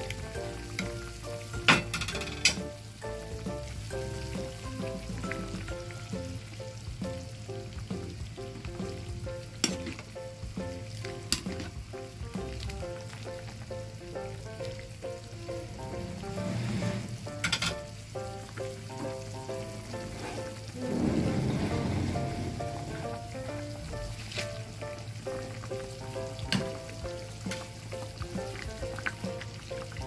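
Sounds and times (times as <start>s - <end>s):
light background music: 0.0s - 30.0s
soup bubbling: 2.5s - 30.0s.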